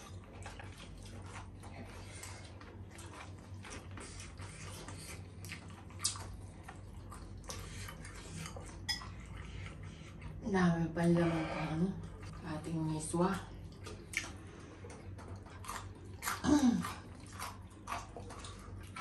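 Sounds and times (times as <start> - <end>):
chewing and wet mouth sounds: 0.0 - 19.0.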